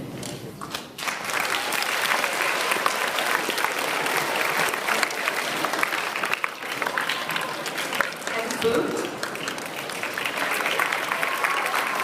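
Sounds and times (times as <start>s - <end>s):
audience clapping: 0.2s - 12.0s.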